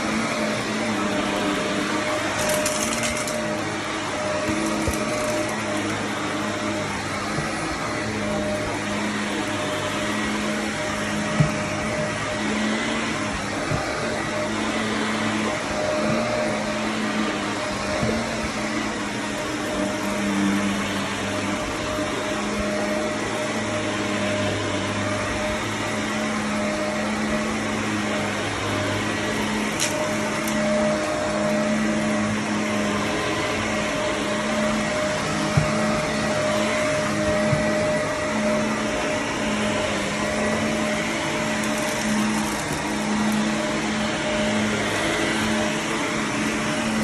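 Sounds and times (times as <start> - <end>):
vacuum cleaner on carpet: 0.0 - 47.0.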